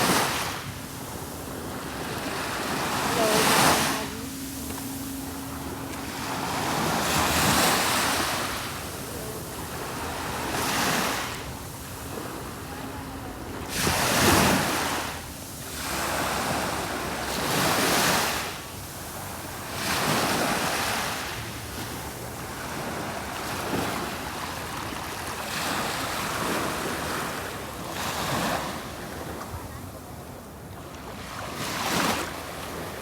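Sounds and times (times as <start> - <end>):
sea waves breaking: 0.0 - 29.8.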